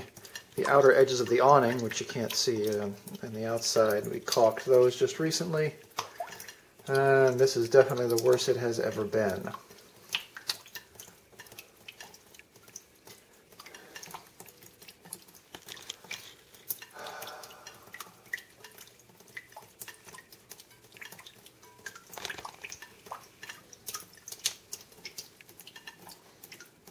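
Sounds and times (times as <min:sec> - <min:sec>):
rainwater dripping: 0:00.0 - 0:26.9.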